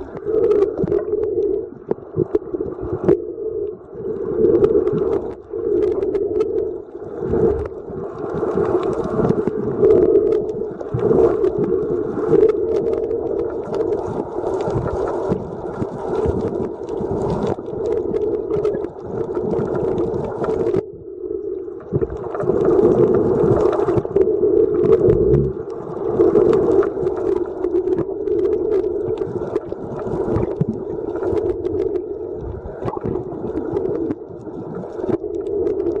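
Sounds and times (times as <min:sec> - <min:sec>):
crackling underwater clicks: 0:00.0 - 0:36.0
muffled underwater drone: 0:00.0 - 0:36.0.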